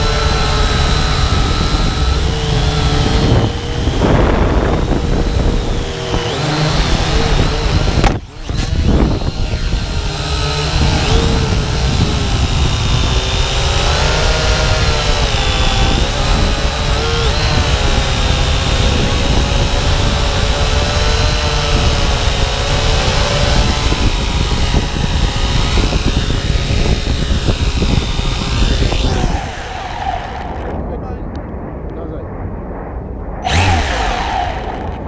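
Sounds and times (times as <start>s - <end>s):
drone propellers whining: 0.0s - 31.5s, 33.4s - 35.0s
heavy rushing rumble: 0.0s - 35.0s.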